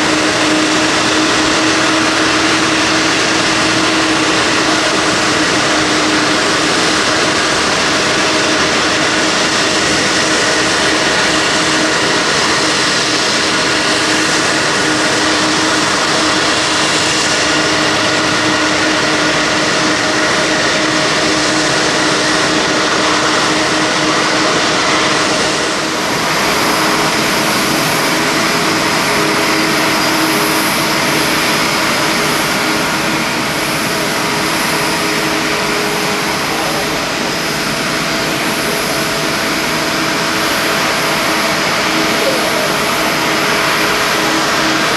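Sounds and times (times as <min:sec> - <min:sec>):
jet engines running: 0:00.0 - 0:44.9
turbine whines: 0:00.0 - 0:44.9.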